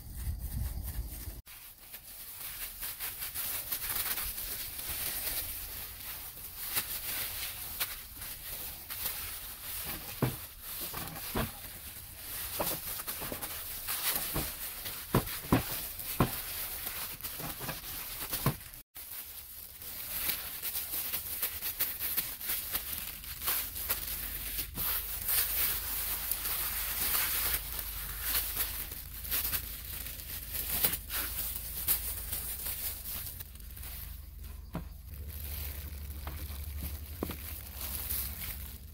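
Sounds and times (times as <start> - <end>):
plastic bag and gloves crinkling: 0.0 - 38.9.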